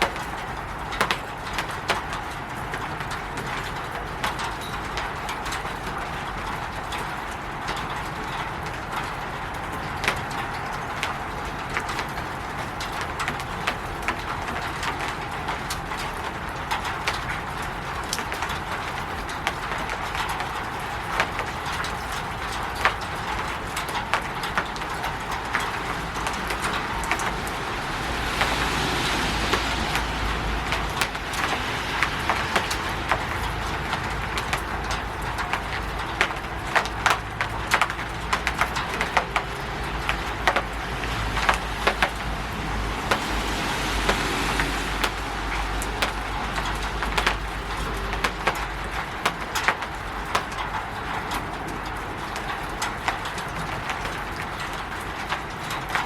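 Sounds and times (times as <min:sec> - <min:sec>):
rain pattering on a roof: 0:00.0 - 0:56.0.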